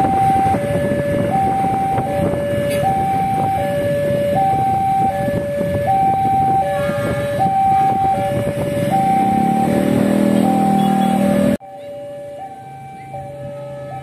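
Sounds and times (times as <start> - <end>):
two-tone crossing alarm: 0.0 - 14.0.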